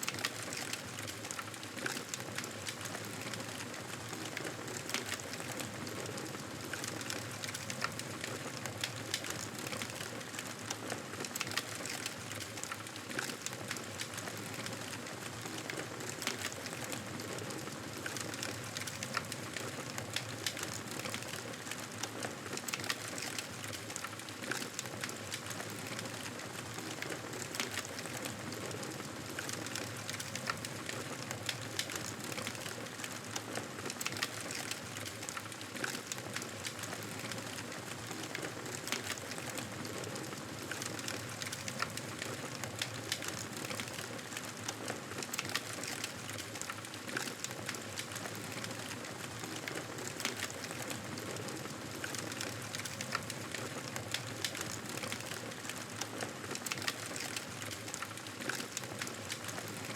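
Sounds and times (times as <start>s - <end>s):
wood fire crackling in fireplace: 0.0s - 59.9s.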